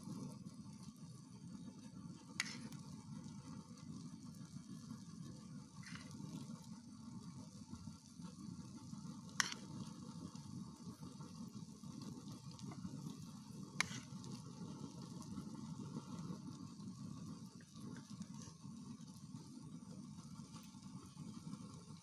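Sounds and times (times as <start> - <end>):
omelette sizzling in pan: 0.0 - 22.0.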